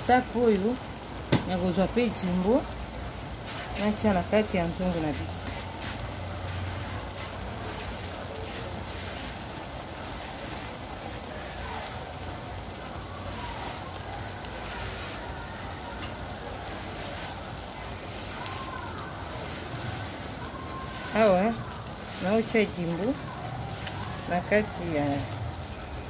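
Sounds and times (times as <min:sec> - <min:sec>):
stew simmering in a pot: 0:00.0 - 0:26.0.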